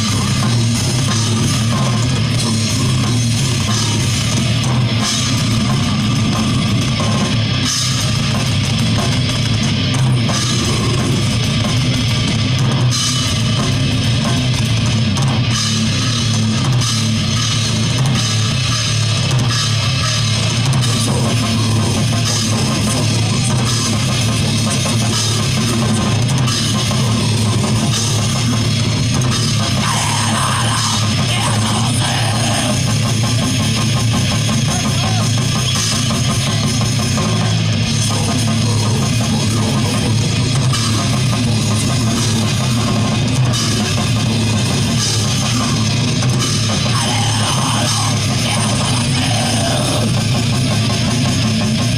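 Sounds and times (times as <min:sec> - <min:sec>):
heavy rock band playing: 0:00.0 - 0:51.9.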